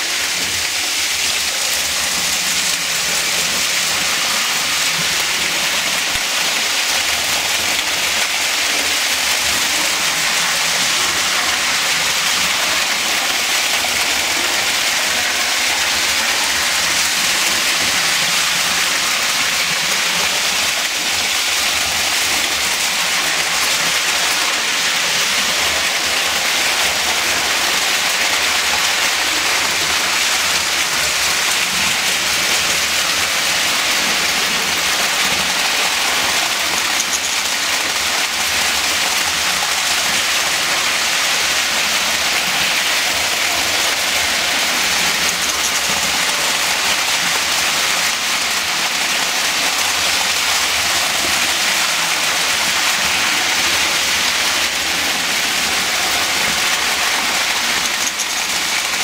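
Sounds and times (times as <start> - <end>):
toy trains rattling on metal track: 0.0 - 59.0.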